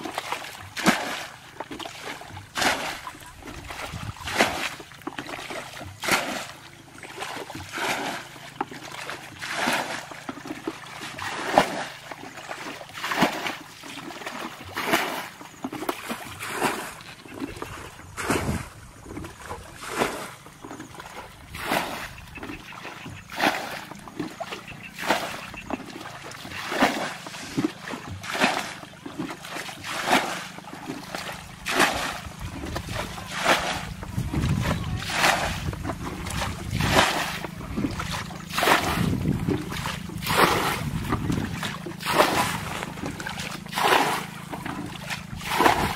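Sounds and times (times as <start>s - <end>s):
bucket scooping and splashing water: 0.0s - 45.9s.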